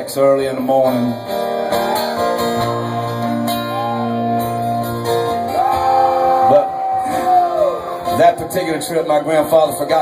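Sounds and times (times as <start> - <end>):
guitars playing sustained notes: 0.0 - 10.0.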